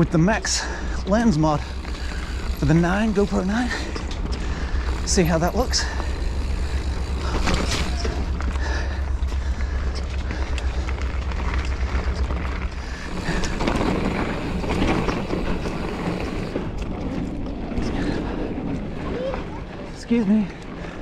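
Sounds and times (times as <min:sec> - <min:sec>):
bike rattling and knocking: 0:00.0 - 0:21.0
bike tyres rumbling on dirt: 0:00.0 - 0:21.0
heavy low rumble: 0:00.0 - 0:21.0.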